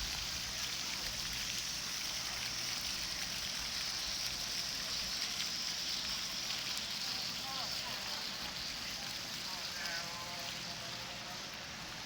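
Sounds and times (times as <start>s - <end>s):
splashing water hiss: 0.0s - 12.0s.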